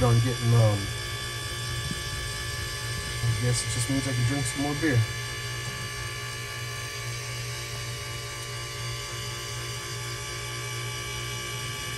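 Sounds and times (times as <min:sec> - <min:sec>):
pellet grill motor hum: 0:00.0 - 0:11.9.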